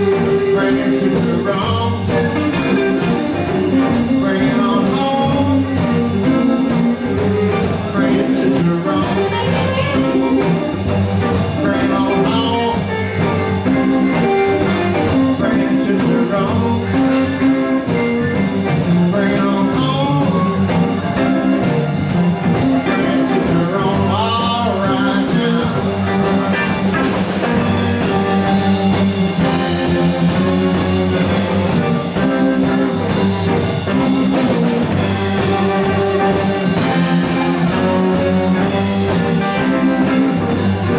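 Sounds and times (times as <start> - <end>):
bass line: 0.0 - 40.9
electric guitars: 0.0 - 40.9
steady drum beat: 0.0 - 40.9.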